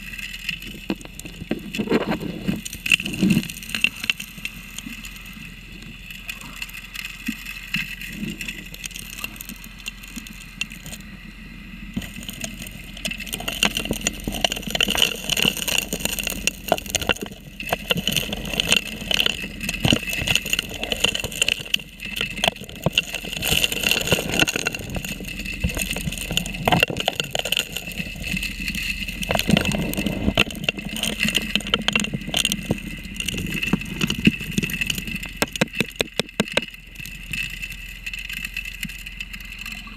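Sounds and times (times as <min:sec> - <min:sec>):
stones clattering underwater: 0:00.0 - 0:11.1, 0:12.0 - 0:39.7
engine and pump drone: 0:00.0 - 0:39.9.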